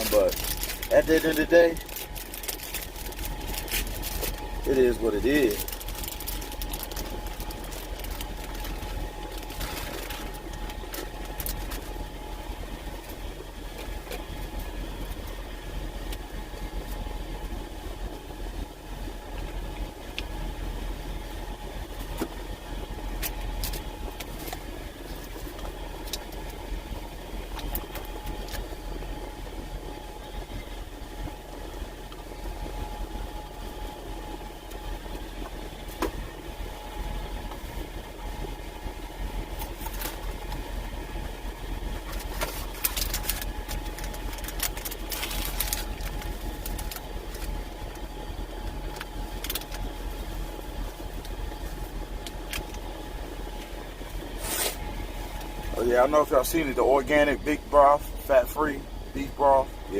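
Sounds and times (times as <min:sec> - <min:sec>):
rustling and handling noise: 0:00.0 - 0:17.6, 0:21.2 - 0:57.7.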